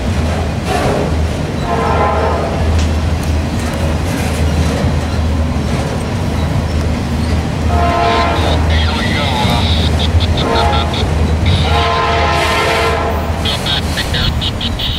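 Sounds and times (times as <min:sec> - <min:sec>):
steel wheels rumbling on rail: 0:00.0 - 0:14.9.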